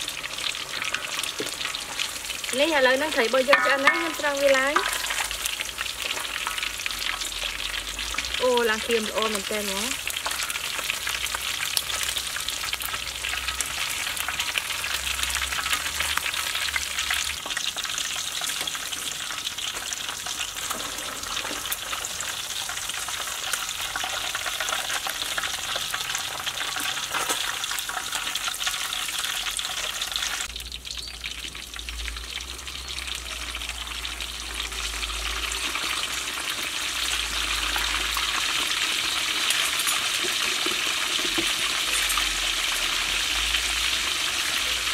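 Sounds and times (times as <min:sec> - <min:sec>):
fish deep-frying in hot oil: 0:00.0 - 0:44.9.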